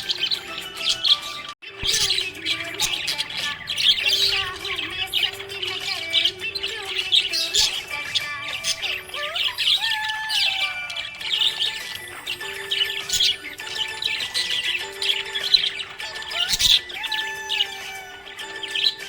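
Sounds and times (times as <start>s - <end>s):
background music: 0.0s - 19.0s
budgerigars chirping: 0.0s - 19.0s.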